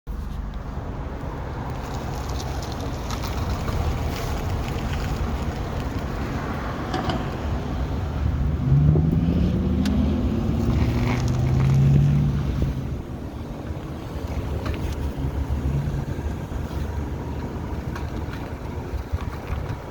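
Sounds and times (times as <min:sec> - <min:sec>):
car rumbling: 0:00.1 - 0:19.9.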